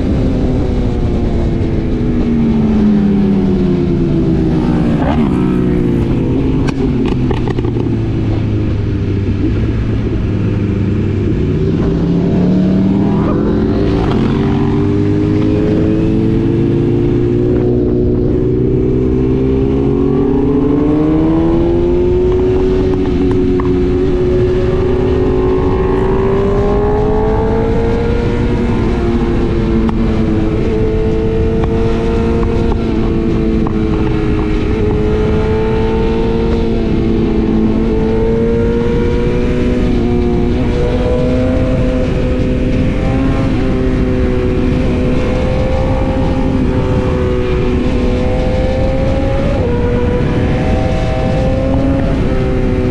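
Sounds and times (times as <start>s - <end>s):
motorcycle engine accelerating: 0.0s - 52.9s
wind rush on microphone: 0.0s - 52.9s.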